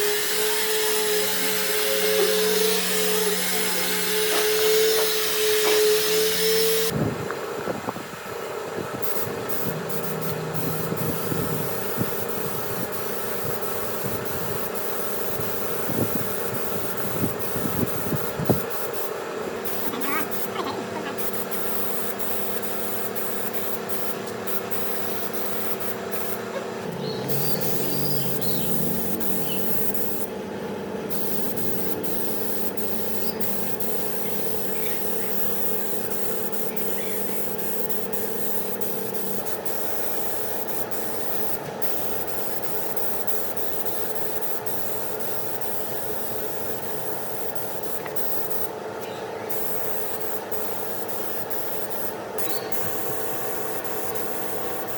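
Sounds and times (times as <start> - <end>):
steady spraying hiss: 0.0 - 30.4, 31.1 - 48.8, 49.5 - 54.9.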